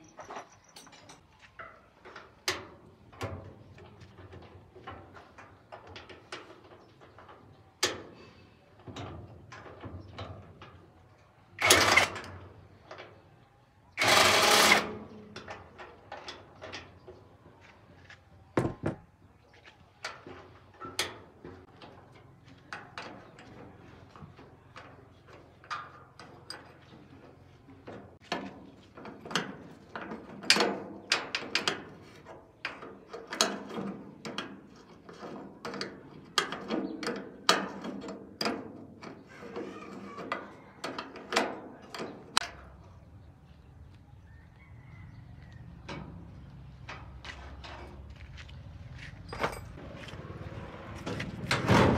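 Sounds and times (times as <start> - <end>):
tools and metal parts clanking: 0.0 - 17.4, 20.0 - 42.9, 45.8 - 50.2.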